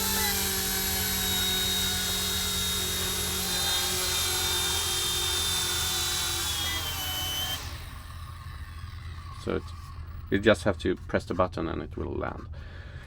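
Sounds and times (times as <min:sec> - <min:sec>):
toy helicopter motor whine: 0:00.0 - 0:10.9.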